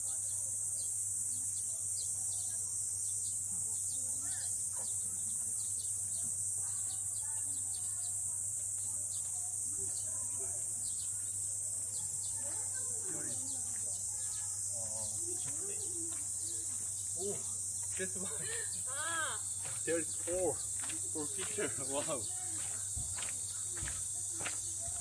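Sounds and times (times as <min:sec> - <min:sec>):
faint distant voices: 0:00.0 - 0:25.0
insects droning: 0:00.0 - 0:25.0.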